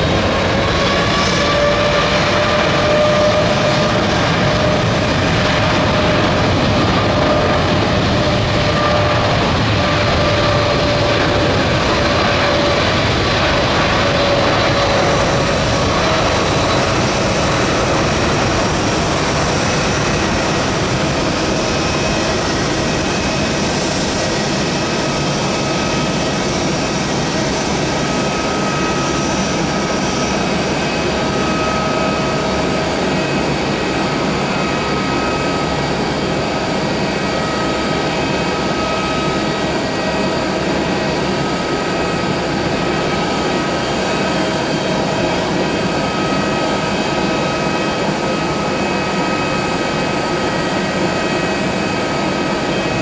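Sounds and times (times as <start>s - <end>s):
jet engines roaring: 0.0s - 53.0s.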